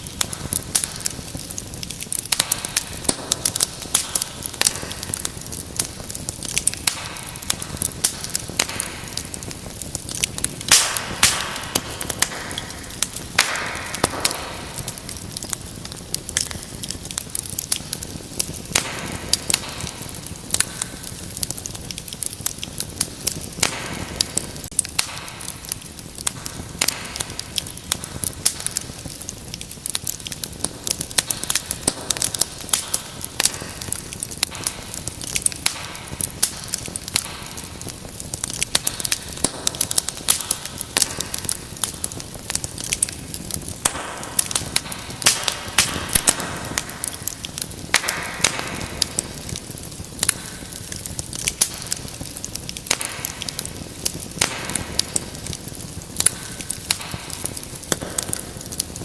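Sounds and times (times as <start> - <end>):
hiss of burning: 0.0 - 59.0
wood fire crackling and popping: 0.0 - 59.0.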